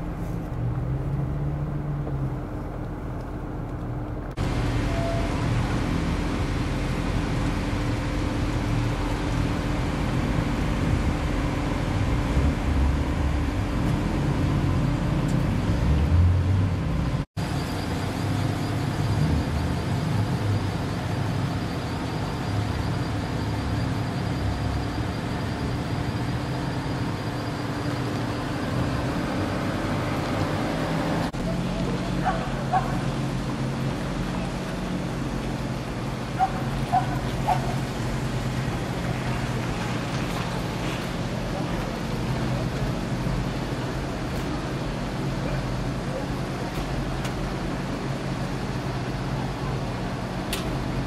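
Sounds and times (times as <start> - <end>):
car engines running at low speed: 0.0 - 51.0.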